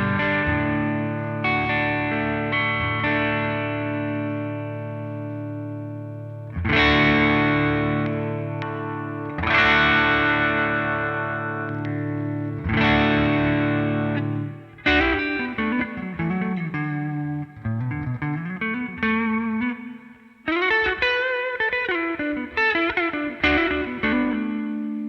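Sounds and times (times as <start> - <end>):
overdriven electric guitar: 0.0 - 25.0.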